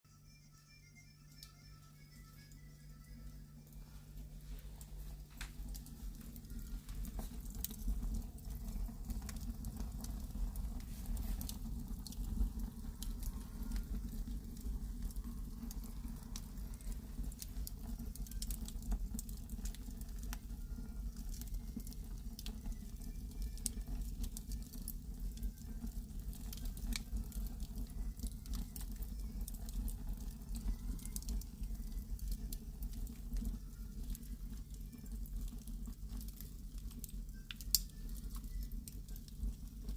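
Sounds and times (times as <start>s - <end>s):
wood fire crackling and popping: 1.2s - 39.9s
fire low rumble: 3.2s - 39.9s.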